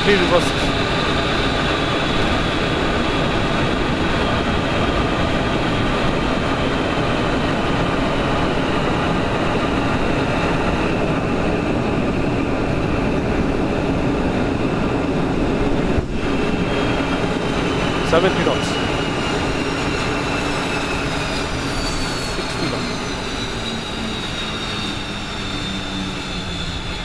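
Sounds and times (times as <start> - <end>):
faint high whine: 0.0 - 6.4, 8.8 - 27.0
jet engines in reverse thrust: 0.0 - 27.0
wheels rumbling on runway: 0.0 - 27.0.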